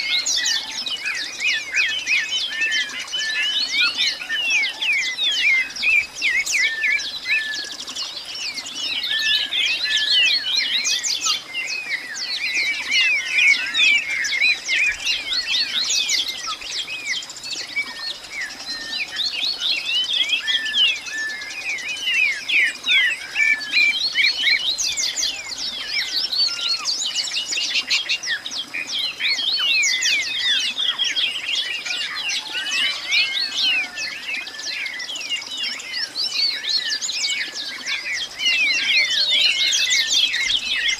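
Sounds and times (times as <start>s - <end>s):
birds chirping in chorus: 0.0s - 40.9s.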